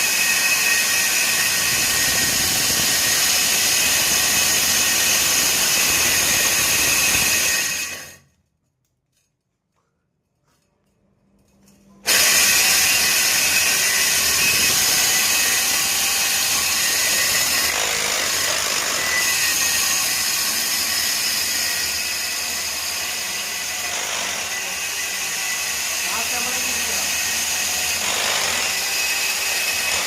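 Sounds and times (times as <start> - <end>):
high drill whine: 0.0 - 8.2, 12.0 - 30.0
core drill grinding through wall: 0.0 - 8.3, 12.0 - 30.0.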